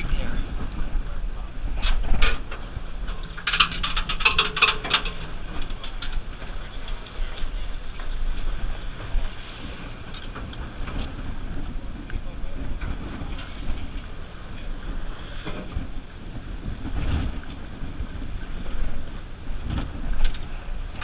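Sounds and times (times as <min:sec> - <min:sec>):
water rushing along hull: 0:00.0 - 0:21.0
wind on microphone: 0:00.0 - 0:21.0.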